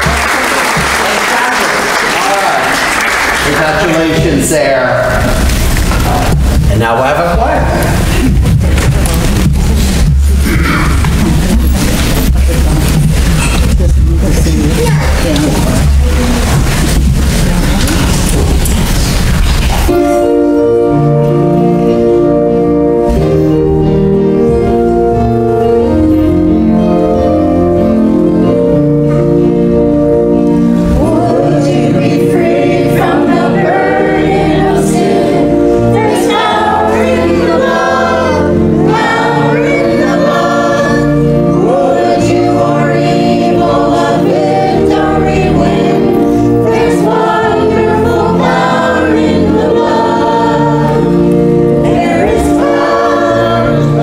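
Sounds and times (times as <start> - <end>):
church choir singing: 0.0 - 13.6, 14.2 - 54.0.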